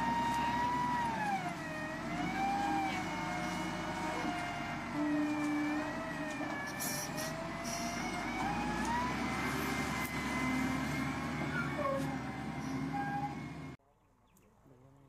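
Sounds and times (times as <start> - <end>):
wheel loader whine: 0.0 - 13.8.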